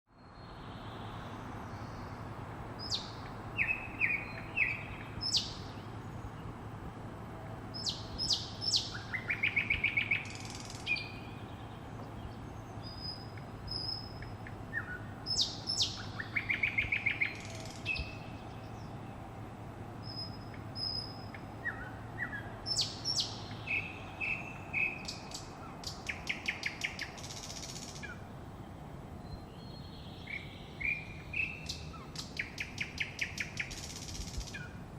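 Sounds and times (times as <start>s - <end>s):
songbirds singing and chirping: 0.1s - 34.9s
steady low background hum: 0.3s - 34.9s.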